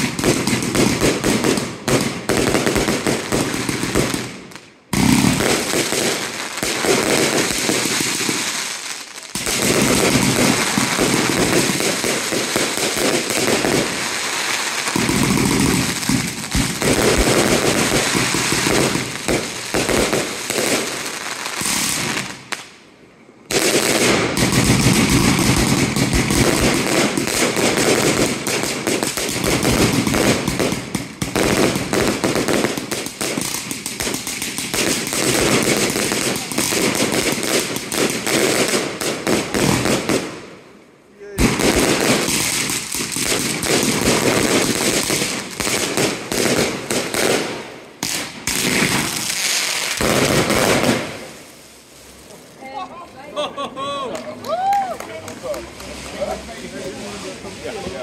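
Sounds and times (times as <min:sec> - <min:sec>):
firework shots and crackling: 0:00.0 - 0:22.8, 0:23.4 - 0:52.2.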